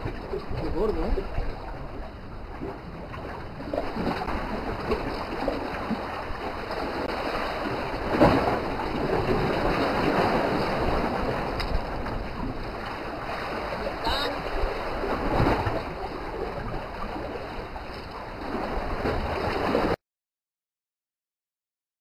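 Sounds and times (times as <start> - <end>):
waves washing against rocks: 0.0 - 20.0.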